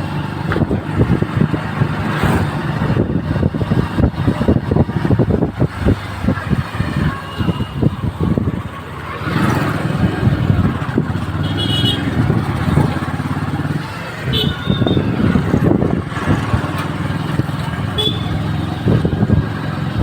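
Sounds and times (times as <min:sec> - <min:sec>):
vehicle engine hum: 0:00.0 - 0:20.0
wind buffeting microphone: 0:00.0 - 0:20.0.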